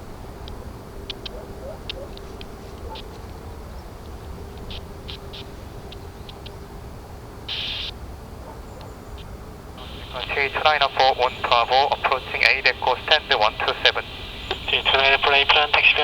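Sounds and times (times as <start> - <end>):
faint steady hum: 0.0 - 16.0
low background rumble: 0.0 - 16.0
small birds chirping: 0.3 - 16.0.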